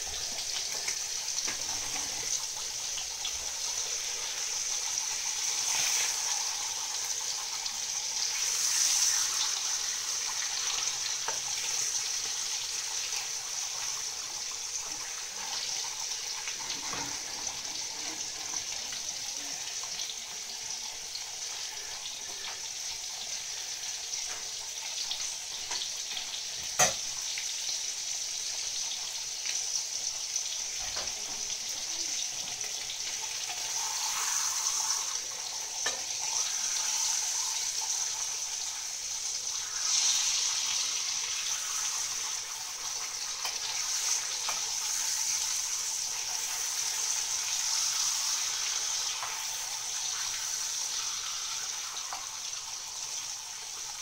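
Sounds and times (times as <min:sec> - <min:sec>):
salami sizzling in oil: 0:00.0 - 0:54.0.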